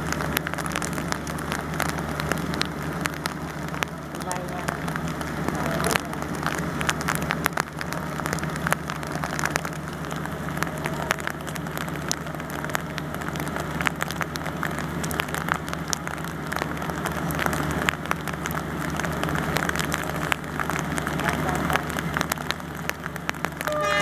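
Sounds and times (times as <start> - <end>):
rain falling: 0.0 - 24.0
raindrops ticking on a surface: 0.0 - 24.0
steady low hum: 0.0 - 24.0.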